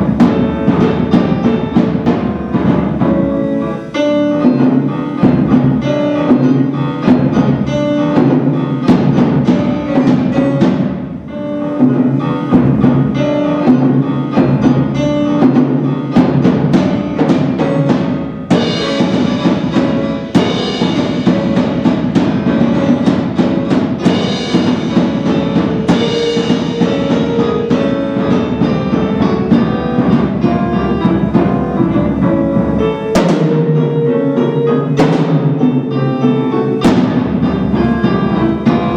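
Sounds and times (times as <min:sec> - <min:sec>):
solo piano playing: 0:00.0 - 0:38.9.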